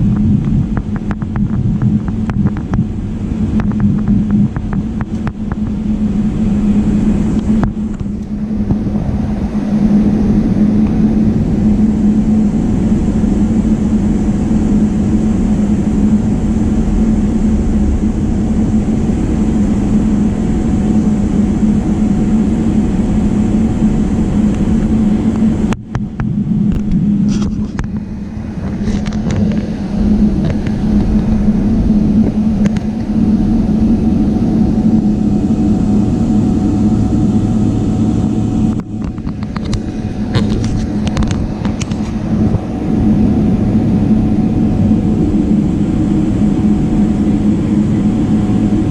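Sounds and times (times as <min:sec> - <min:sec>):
jet engines rumbling in cabin: 0:00.0 - 0:48.9.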